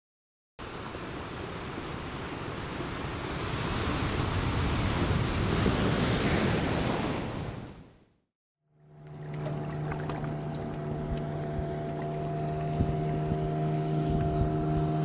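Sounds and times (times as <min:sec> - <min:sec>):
sea waves washing: 0:00.6 - 0:07.8, 0:09.0 - 0:15.0.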